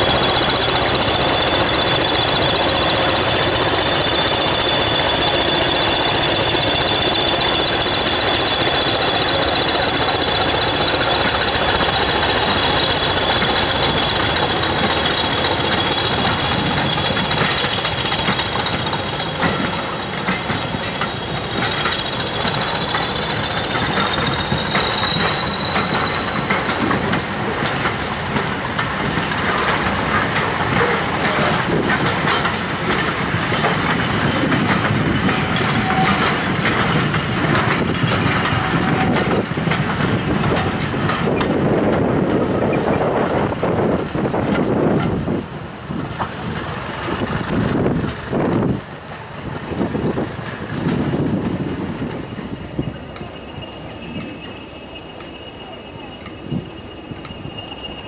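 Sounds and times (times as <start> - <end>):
diesel locomotive engine: 0.0 - 58.0
train wheels rumbling and clattering: 0.0 - 58.0.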